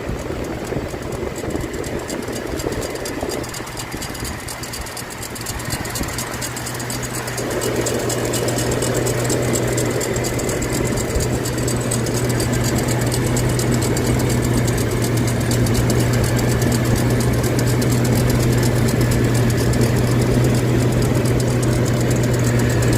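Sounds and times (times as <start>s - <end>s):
machine humming: 0.0s - 22.9s.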